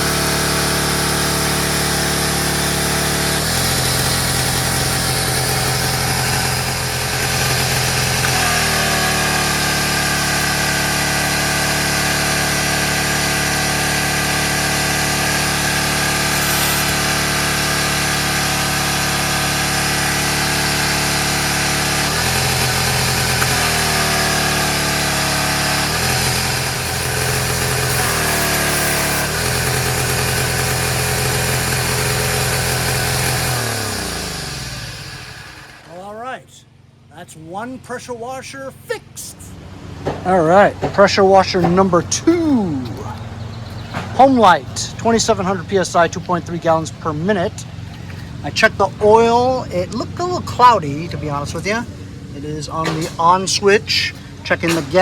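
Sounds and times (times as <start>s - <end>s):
pressure washer engine running: 0.0s - 36.1s, 38.1s - 55.0s.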